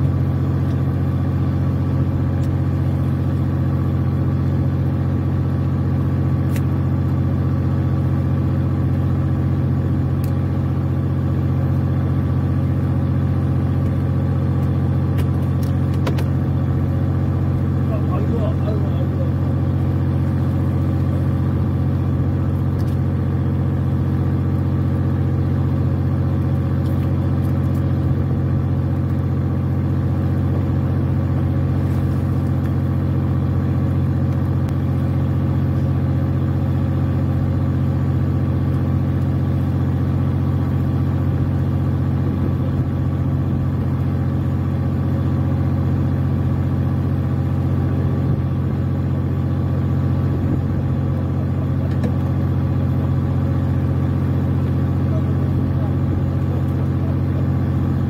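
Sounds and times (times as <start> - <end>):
boat engine idling: 0.0 - 58.0.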